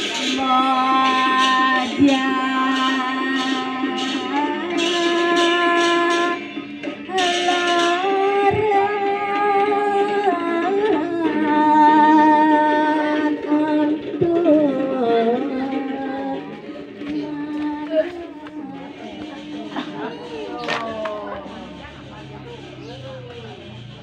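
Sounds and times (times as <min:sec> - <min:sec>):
person singing slow chant: 0:00.0 - 0:22.5.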